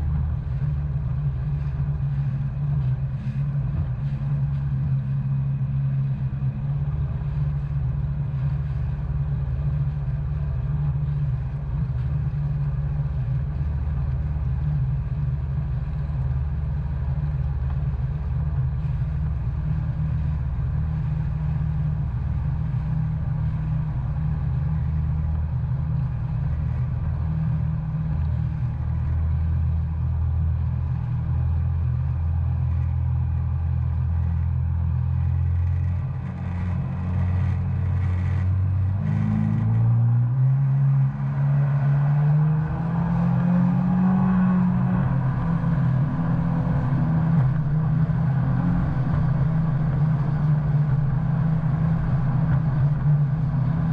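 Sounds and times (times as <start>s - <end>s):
personal watercraft engine: 0.0s - 53.9s.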